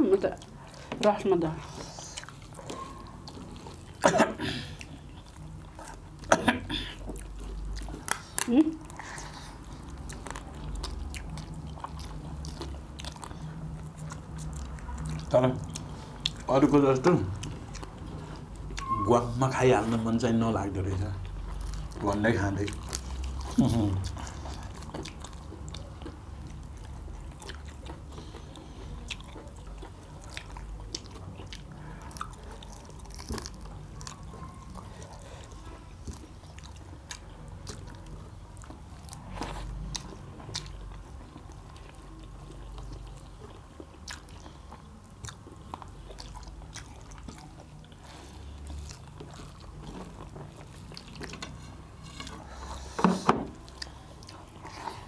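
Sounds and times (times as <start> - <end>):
chewing and biting food: 0.0 - 55.0.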